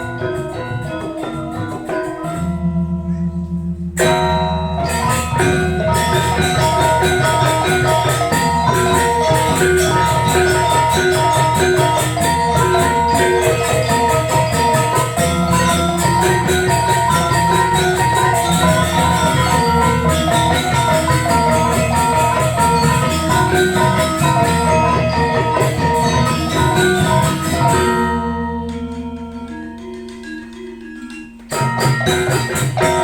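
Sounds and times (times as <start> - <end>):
cymbals: 0.0 - 33.0
gamelan ensemble playing: 0.0 - 33.0.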